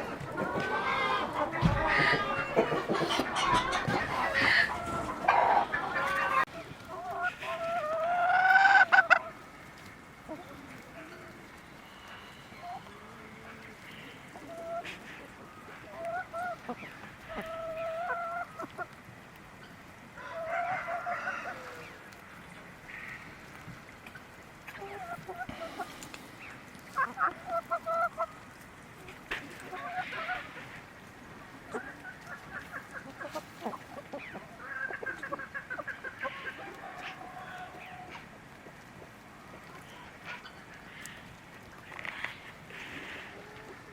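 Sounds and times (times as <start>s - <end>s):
chickens calling: 0.0s - 43.9s.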